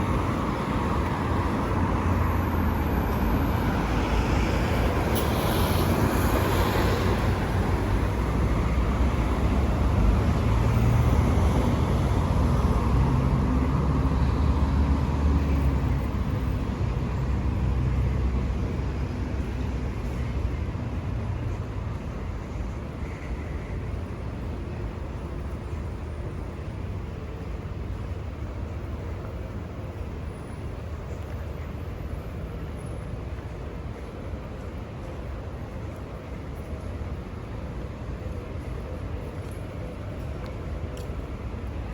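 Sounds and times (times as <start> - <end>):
road noise hiss: 0.0 - 41.9.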